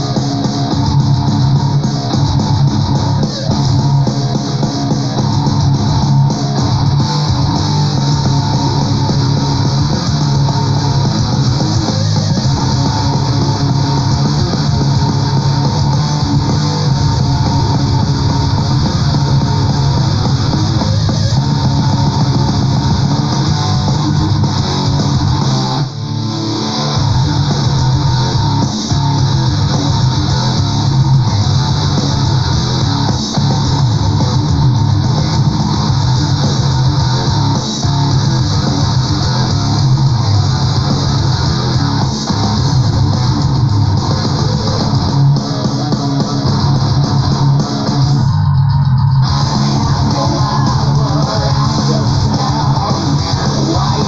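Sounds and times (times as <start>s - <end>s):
prog metal music playing loudly: 0.0s - 54.0s.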